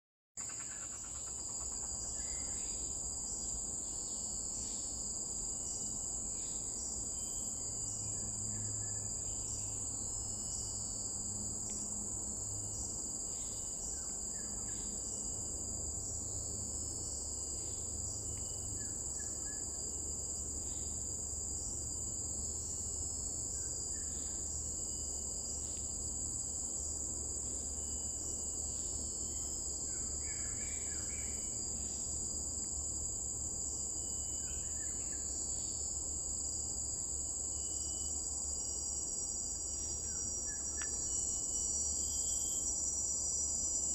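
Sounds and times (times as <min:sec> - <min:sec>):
crickets trilling: 0:00.4 - 0:43.9
insect pulsing rhythmically: 0:00.4 - 0:43.9.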